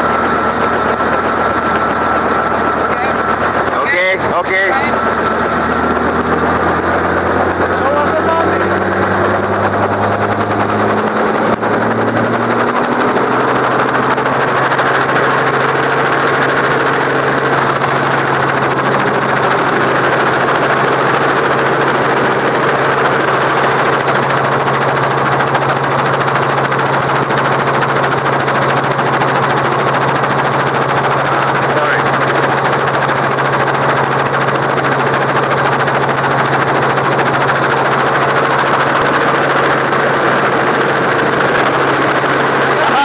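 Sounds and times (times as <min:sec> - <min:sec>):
helicopter engine and rotor: 0:00.0 - 0:43.0.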